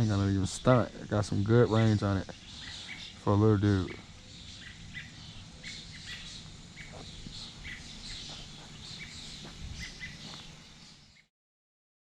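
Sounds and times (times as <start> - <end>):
birds chirping: 0.0 - 11.3
low outdoor rumble: 0.0 - 11.3.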